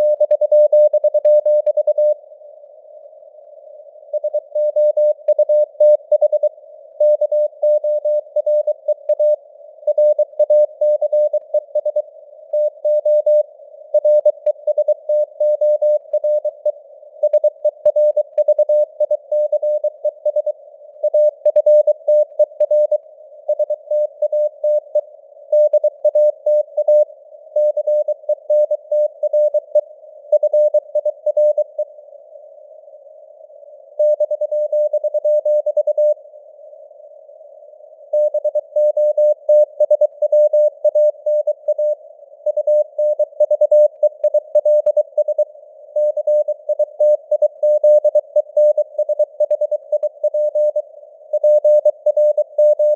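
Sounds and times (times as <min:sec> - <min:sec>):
morse code beep tone: 0:00.0 - 0:02.2, 0:04.2 - 0:12.0, 0:12.6 - 0:25.0, 0:25.6 - 0:31.8, 0:34.0 - 0:36.2, 0:38.2 - 0:50.8, 0:51.4 - 0:52.9.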